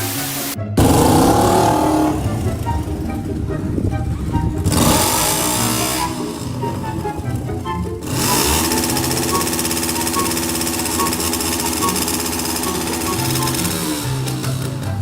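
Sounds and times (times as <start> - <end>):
car engine revving: 0.0 - 15.0
music: 0.0 - 15.0.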